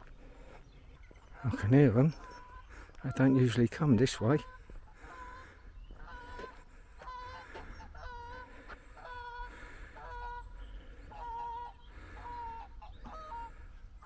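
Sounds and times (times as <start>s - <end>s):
geese honking: 1.2s - 14.0s.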